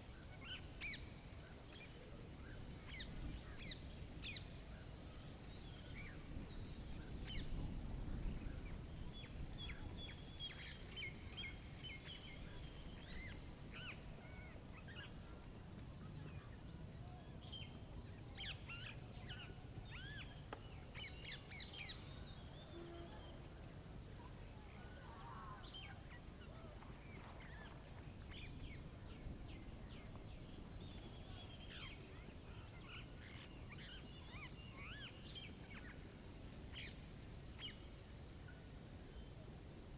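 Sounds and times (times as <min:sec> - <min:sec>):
small birds chirping and trilling: 0:00.0 - 0:39.5.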